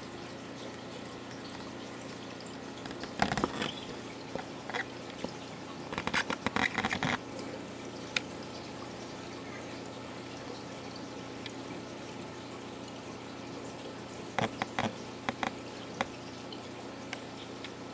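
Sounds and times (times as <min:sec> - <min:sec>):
aquarium filter humming: 0:00.0 - 0:17.9.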